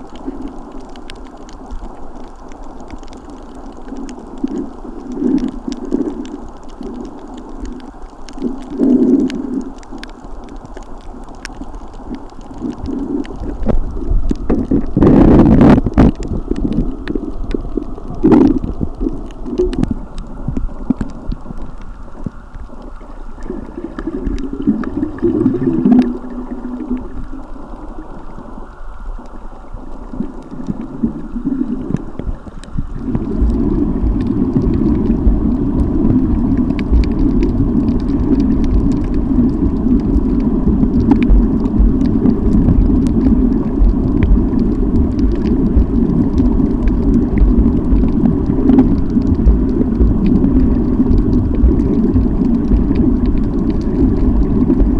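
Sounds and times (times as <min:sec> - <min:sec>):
faint clicks: 0:00.0 - 0:54.9
muffled underwater rumbling: 0:00.0 - 0:54.9.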